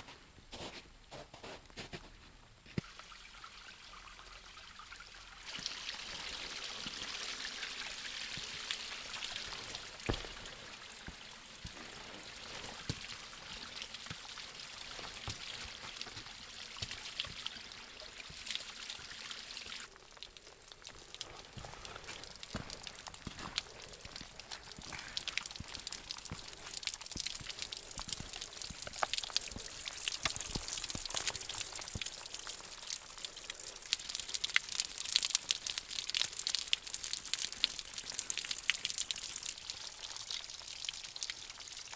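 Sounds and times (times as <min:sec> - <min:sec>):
water drips and taps: 0:04.8 - 0:41.9.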